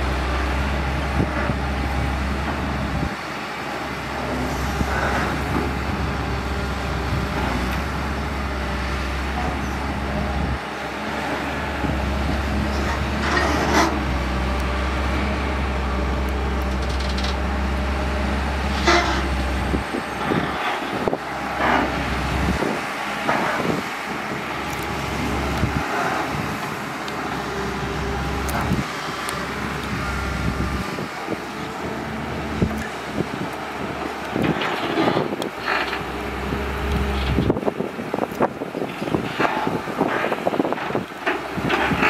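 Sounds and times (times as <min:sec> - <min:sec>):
excavator diesel engine rumbling: 0:00.0 - 0:42.0.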